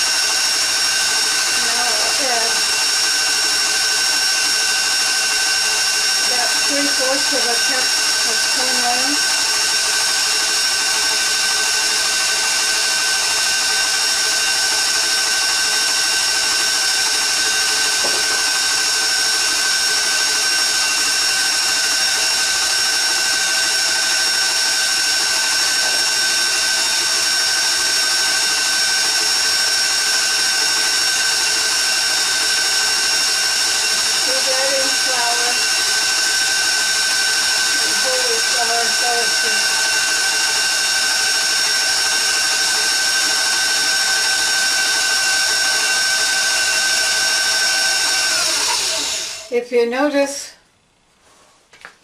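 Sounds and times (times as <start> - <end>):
stand mixer motor whining: 0.0 - 49.5.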